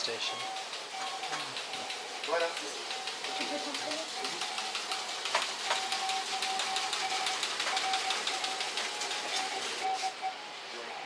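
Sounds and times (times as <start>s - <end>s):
teleprinter clattering: 0.0s - 10.0s
morse code beeping: 0.0s - 10.6s.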